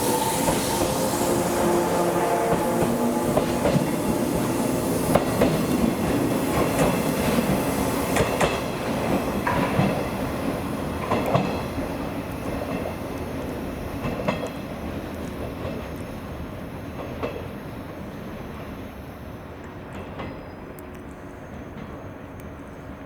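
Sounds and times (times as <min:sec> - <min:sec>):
train rumble on rails: 0:00.0 - 0:23.0.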